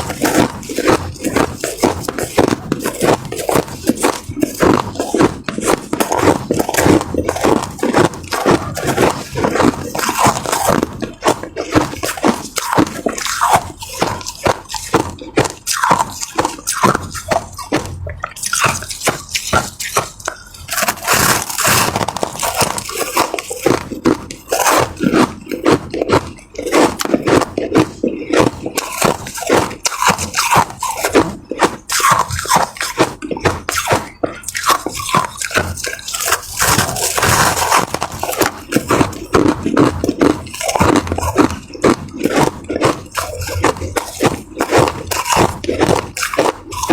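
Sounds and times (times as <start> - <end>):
chewing ice crunches: 0.0 - 46.9.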